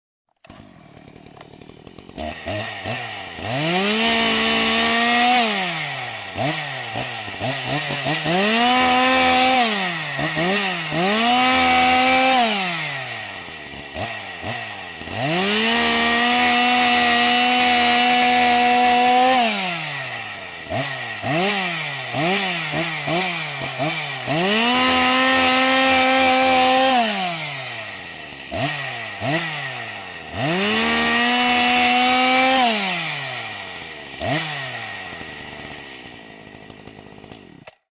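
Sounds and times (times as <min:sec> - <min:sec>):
chainsaw engine revving: 0:00.4 - 0:37.9.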